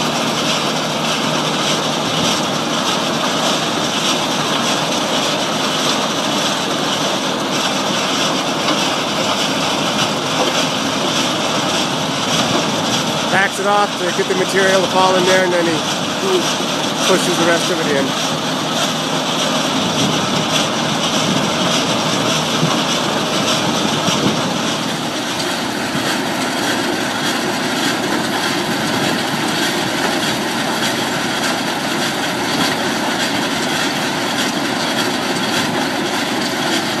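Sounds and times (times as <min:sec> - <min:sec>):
grinder running loud: 0:00.0 - 0:37.0.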